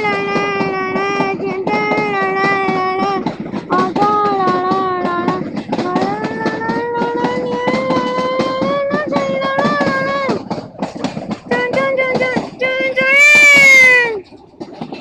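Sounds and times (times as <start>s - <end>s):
train wheels clattering: 0.0s - 15.0s.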